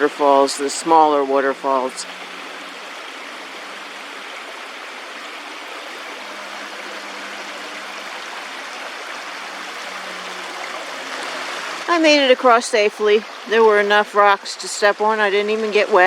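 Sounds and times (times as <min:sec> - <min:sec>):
water running over rocks: 0:00.0 - 0:16.0.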